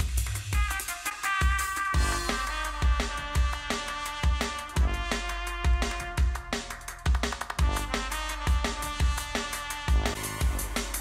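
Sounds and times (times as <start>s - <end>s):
breakbeat music over speakers: 0.0s - 11.0s.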